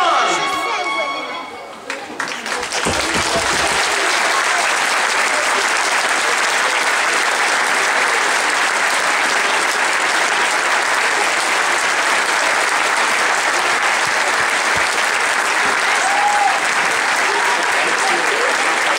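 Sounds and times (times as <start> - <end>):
audience applauding: 1.8 - 18.9.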